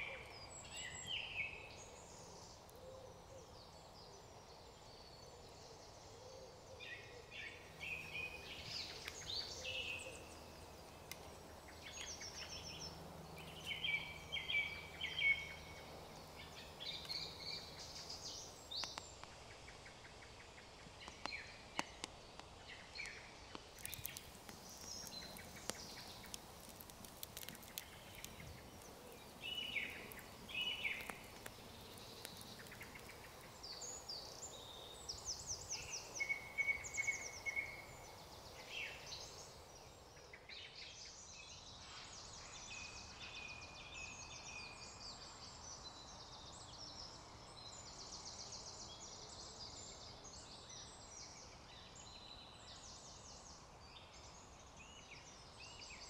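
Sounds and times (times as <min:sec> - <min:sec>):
birds singing: 0:00.0 - 0:56.0
faint steady hiss: 0:00.0 - 0:56.0.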